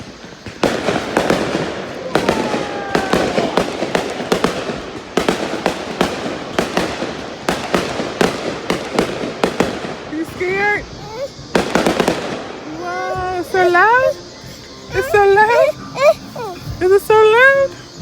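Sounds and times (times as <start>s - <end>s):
falling firework whistle: 0.0s - 15.2s
fireworks bangs and crackle: 0.0s - 18.0s.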